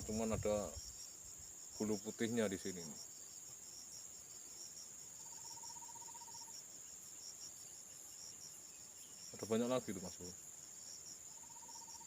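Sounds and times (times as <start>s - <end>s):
fast pulsing insect trill: 0.0s - 12.0s
insects shrilling: 0.0s - 12.0s.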